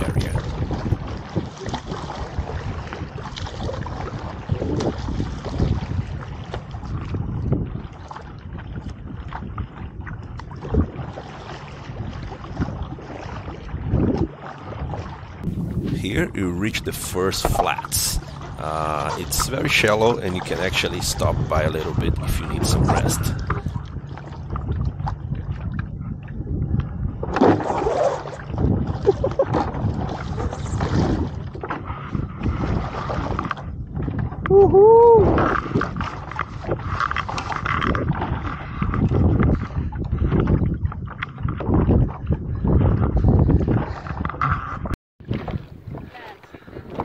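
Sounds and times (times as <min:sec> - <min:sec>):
paddle strokes splashing: 0:00.0 - 0:34.4, 0:35.2 - 0:47.0
wind noise on microphone: 0:00.0 - 0:47.0.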